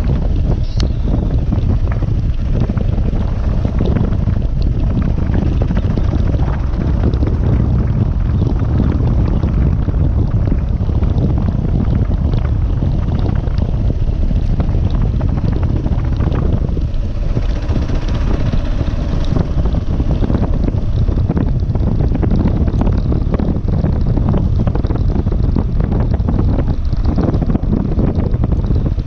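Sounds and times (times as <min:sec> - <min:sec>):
motorcycle engine: 0:00.0 - 0:29.0
wind buffeting on microphone: 0:00.0 - 0:29.0.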